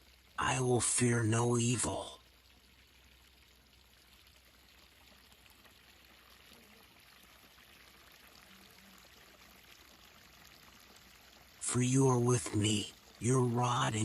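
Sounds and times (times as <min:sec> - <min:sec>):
faint babbling water: 0:00.0 - 0:14.0.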